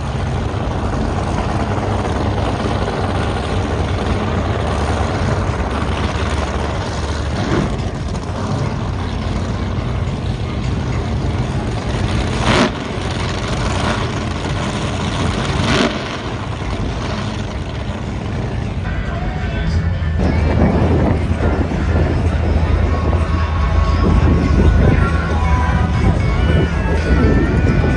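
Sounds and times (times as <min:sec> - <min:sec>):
low engine rumble: 0:00.0 - 0:27.9.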